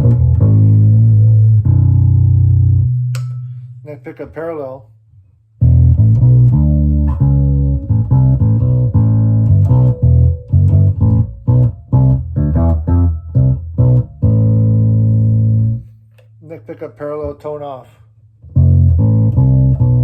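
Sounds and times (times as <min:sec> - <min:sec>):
bass guitar riff: 0:00.0 - 0:04.8, 0:05.6 - 0:20.0.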